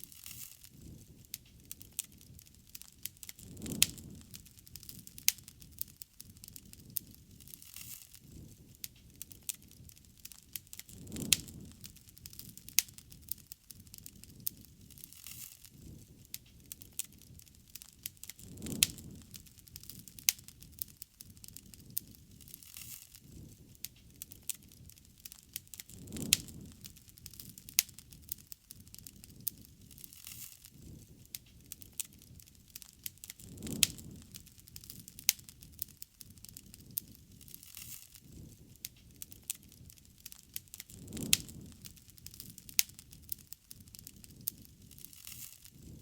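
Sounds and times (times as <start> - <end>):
bonfire crackling and popping: 0.0 - 46.0
low rumble of flames: 0.0 - 46.0.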